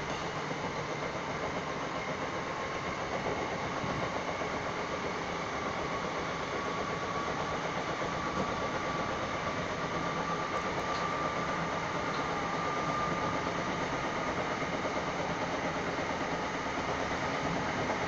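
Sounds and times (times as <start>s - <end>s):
electric train running noise: 0.0s - 18.0s
faint train whine: 0.0s - 18.0s.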